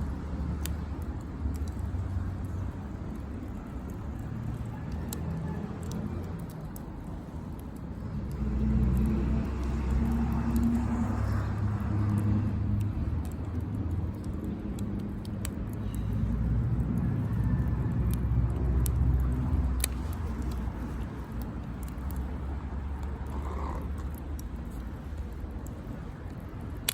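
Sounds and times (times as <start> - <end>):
cars passing rumble: 0.0 - 26.9
wood fire crackling: 0.0 - 26.9.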